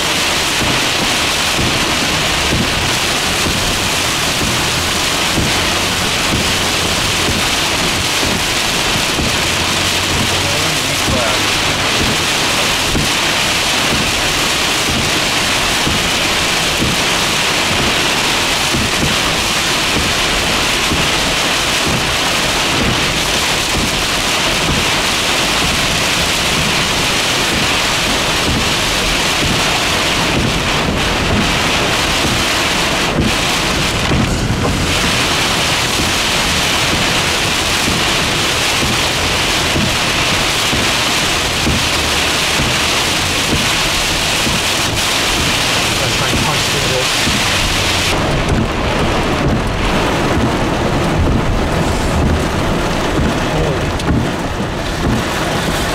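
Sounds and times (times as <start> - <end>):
heavy rain on car windshield: 0.0 - 55.9.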